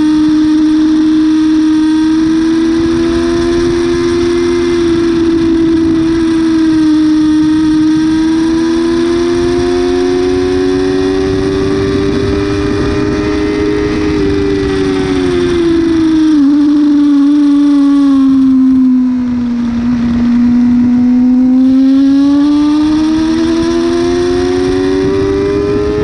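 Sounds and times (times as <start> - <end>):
motorcycle engine at high revs: 0.0 - 26.0
wind rush: 0.0 - 26.0.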